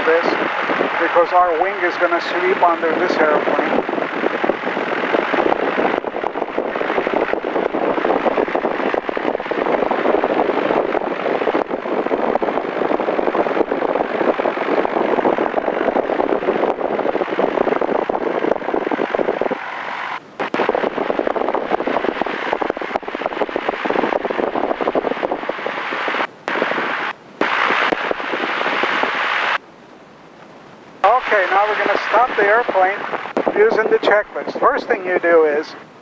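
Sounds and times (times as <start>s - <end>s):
propeller airplane engine: 0.0s - 36.0s.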